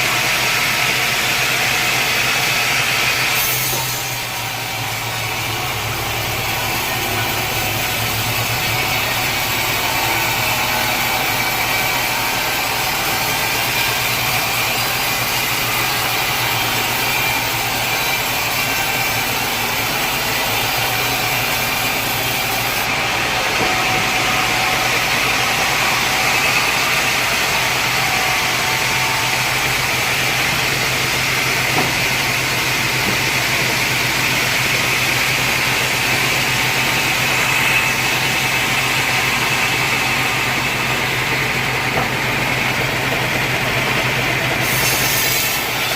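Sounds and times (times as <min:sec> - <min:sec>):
machinery high whine: 0:00.0 - 0:45.9
machinery low hum: 0:03.2 - 0:44.8.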